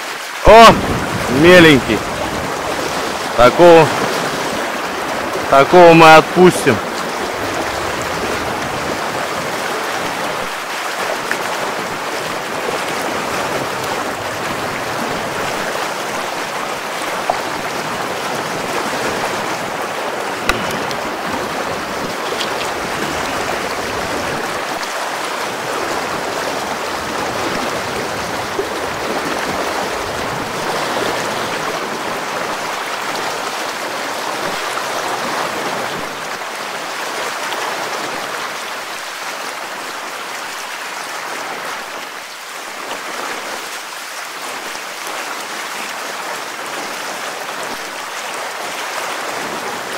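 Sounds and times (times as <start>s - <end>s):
river current rushing and splashing: 0.0s - 49.9s.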